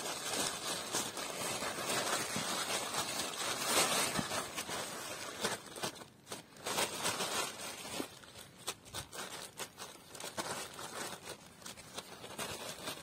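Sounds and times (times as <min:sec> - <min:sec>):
plastic sheeting crinkling: 0:00.0 - 0:13.0.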